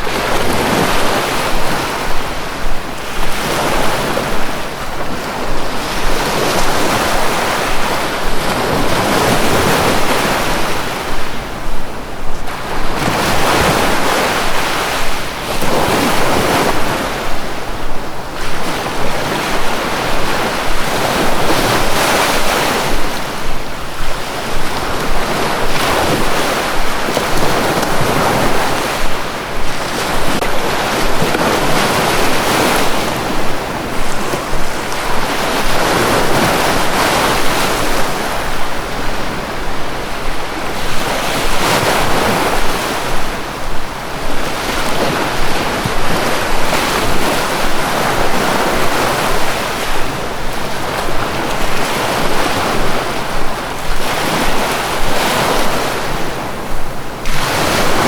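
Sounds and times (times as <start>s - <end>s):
sea waves washing: 0.0s - 58.0s.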